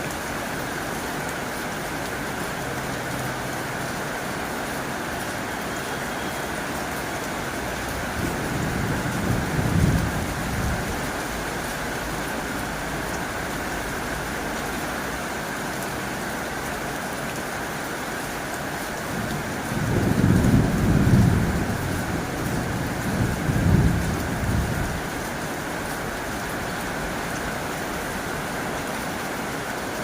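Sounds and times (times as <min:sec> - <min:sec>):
heavy rain on a tin roof: 0:00.0 - 0:30.0.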